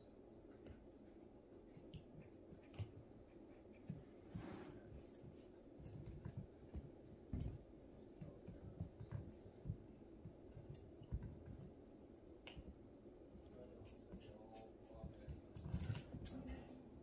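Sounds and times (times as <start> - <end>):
puppy claws clicking and thumping: 1.7 - 4.2, 5.1 - 16.6.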